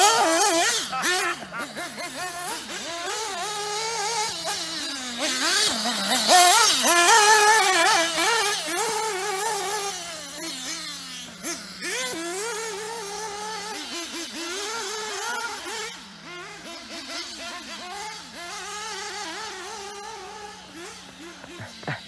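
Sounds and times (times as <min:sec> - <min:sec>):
model car engine revving: 0:00.0 - 0:22.0.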